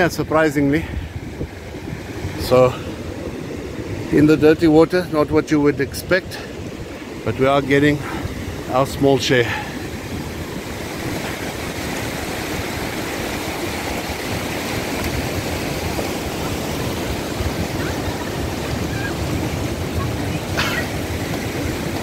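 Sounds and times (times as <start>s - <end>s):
surf breaking on beach: 0.0s - 22.0s.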